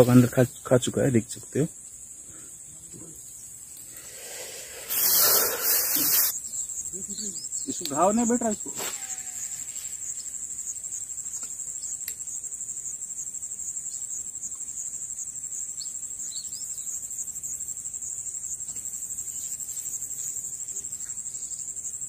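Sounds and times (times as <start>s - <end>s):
high-pitched insect chorus: 0.0s - 22.0s
faint bird chirps: 1.4s - 13.0s, 13.6s - 21.9s.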